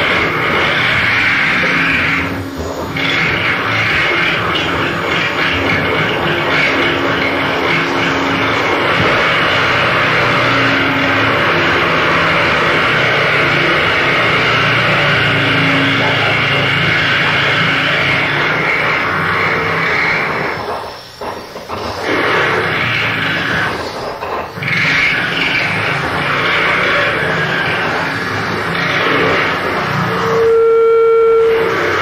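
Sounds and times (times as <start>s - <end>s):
harsh noise with low drones: 0.0s - 32.0s.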